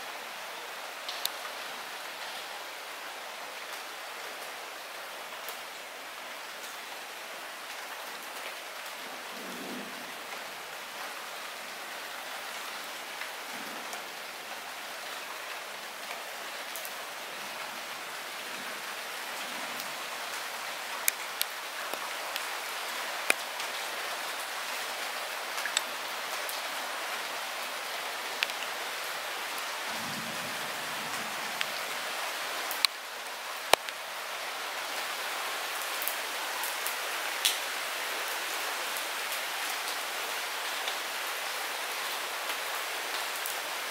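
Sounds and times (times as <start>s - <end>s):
light rain falling: 0.0s - 43.9s.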